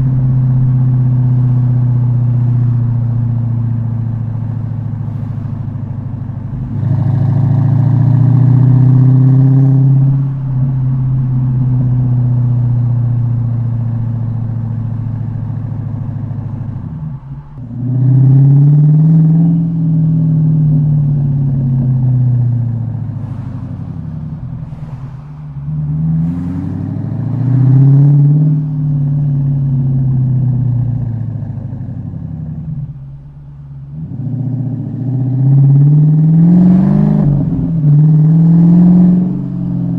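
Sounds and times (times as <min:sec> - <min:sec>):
engine revving: 0:00.0 - 0:39.9.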